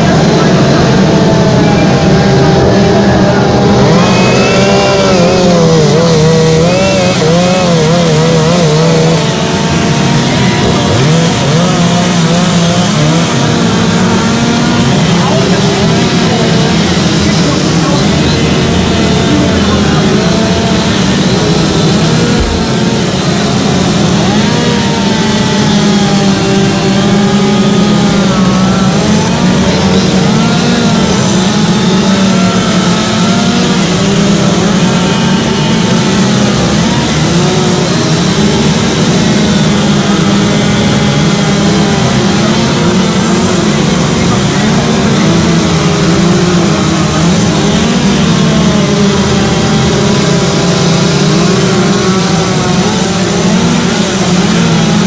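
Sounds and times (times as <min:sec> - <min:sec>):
chainsaws cutting wood: 0:00.0 - 0:55.0.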